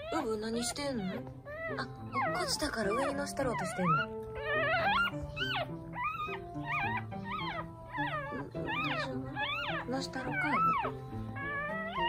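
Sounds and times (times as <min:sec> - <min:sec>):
background music: 0:00.0 - 0:12.0
puppy squealing: 0:00.0 - 0:12.0.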